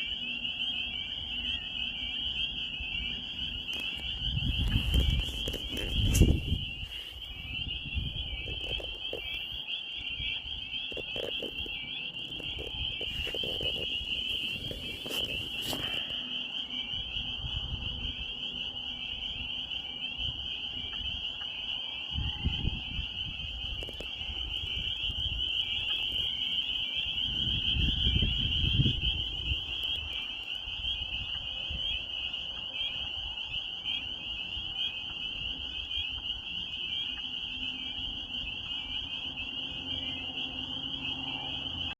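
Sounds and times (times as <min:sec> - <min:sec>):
chorus of peeping frogs: 0:00.0 - 0:41.9.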